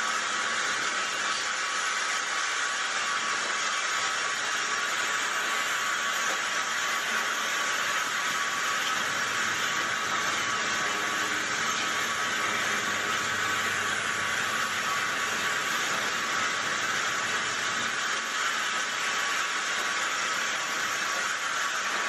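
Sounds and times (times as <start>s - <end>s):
lathe running: 0.0s - 22.0s.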